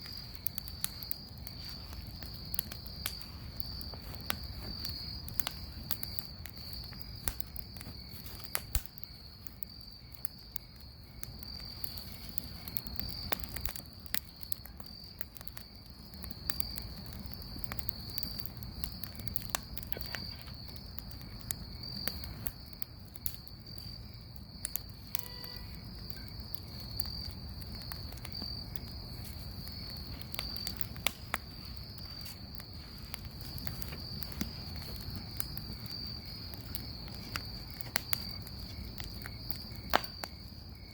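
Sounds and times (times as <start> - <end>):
bonfire crackling: 0.0 - 40.9
crickets chirring: 0.0 - 40.9.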